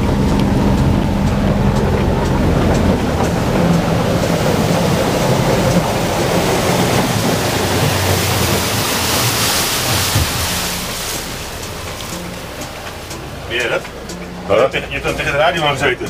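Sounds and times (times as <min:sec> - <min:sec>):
low boat engine drone: 0:00.0 - 0:16.0
rush of water and wind: 0:00.0 - 0:16.0.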